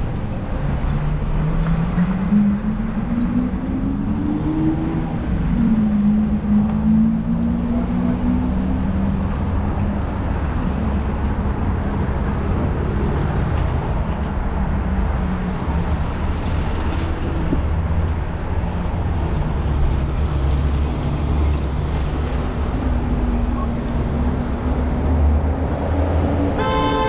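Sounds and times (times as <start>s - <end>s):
street traffic noise: 0.0s - 27.0s.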